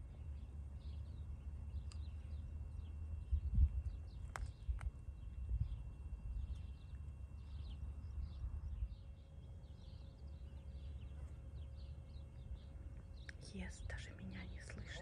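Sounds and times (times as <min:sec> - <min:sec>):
low rumble: 0:00.0 - 0:15.0
small birds chirping: 0:00.0 - 0:15.0.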